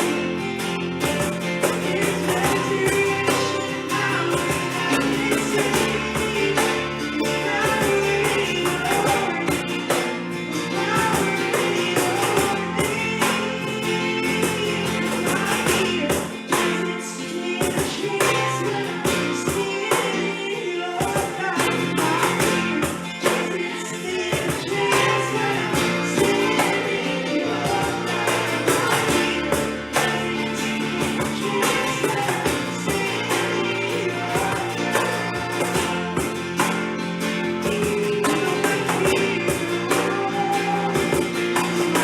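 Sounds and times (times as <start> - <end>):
person singing: 0.0 - 42.0
worship band playing: 0.0 - 42.0.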